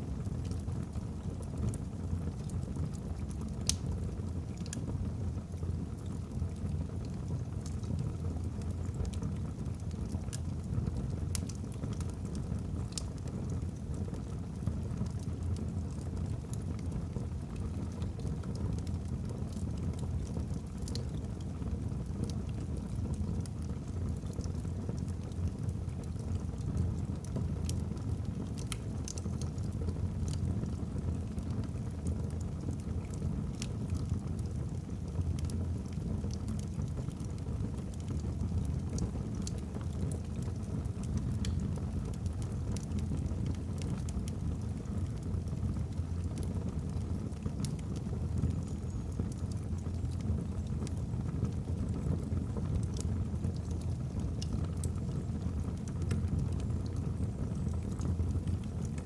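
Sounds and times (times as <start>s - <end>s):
wood fire burning: 0.0s - 59.0s.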